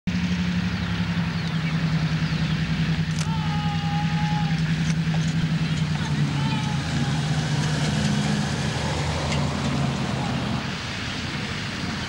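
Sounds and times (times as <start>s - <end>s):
diesel locomotive engine drone: 0.1s - 12.0s.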